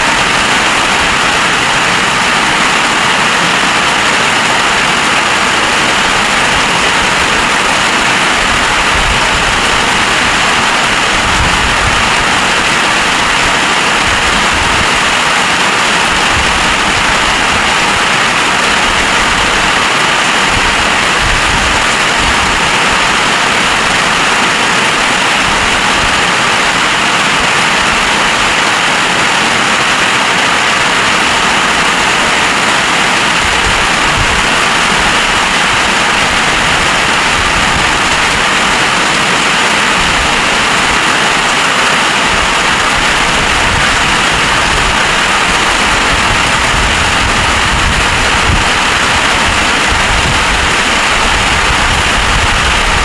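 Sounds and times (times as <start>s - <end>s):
wind buffeting microphone: 0.0s - 28.7s, 31.0s - 53.0s
heavy rain pouring: 0.0s - 53.0s.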